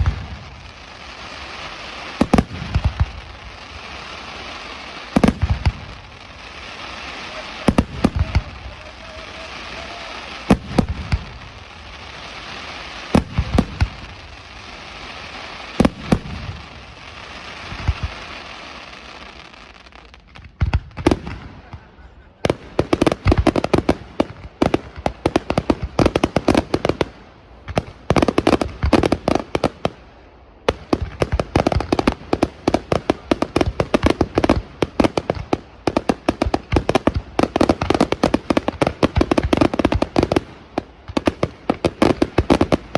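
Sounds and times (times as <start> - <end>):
rapid firework bangs: 0.0 - 18.4, 20.4 - 30.0, 30.6 - 42.9
fireworks hiss: 0.0 - 42.9.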